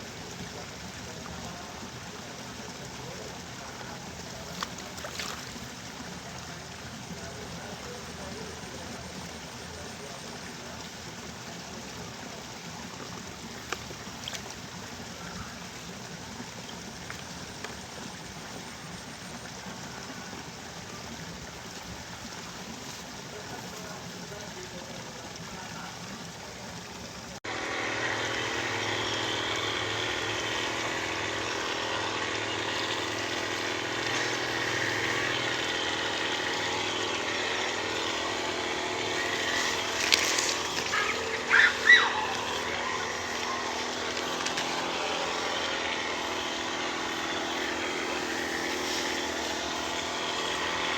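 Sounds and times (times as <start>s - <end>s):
liquid trickling and splashing: 0.0s - 27.4s, 29.1s - 50.9s
small engine running: 0.0s - 50.9s.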